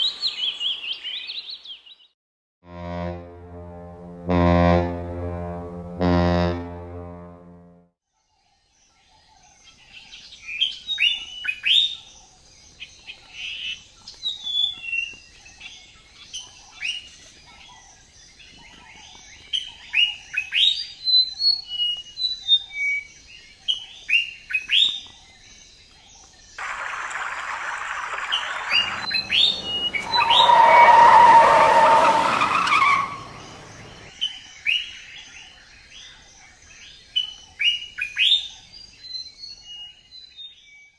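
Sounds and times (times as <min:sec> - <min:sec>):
songbirds chirping: 0:00.0 - 0:02.1, 0:08.3 - 0:40.9.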